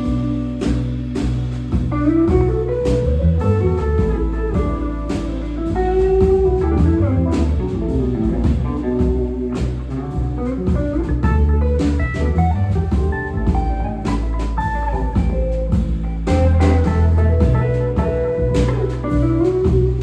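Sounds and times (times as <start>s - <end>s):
bass: 0.0s - 20.0s
drums: 0.0s - 20.0s
guitar melodic lines: 0.0s - 20.0s.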